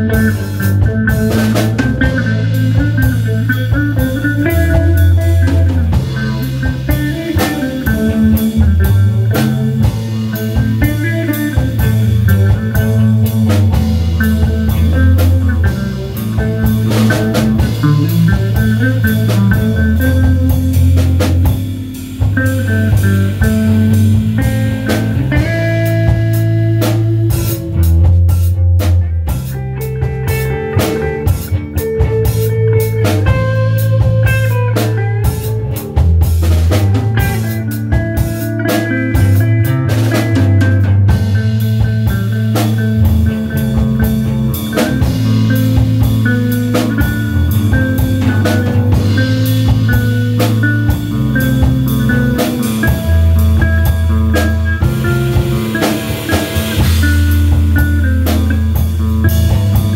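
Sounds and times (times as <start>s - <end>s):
drum kit: 0.0s - 59.9s
guitar lines: 0.0s - 59.9s.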